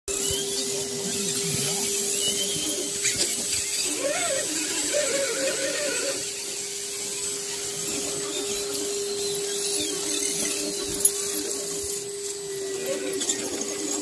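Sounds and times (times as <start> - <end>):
electric motor and gears whining: 0.1 - 14.0.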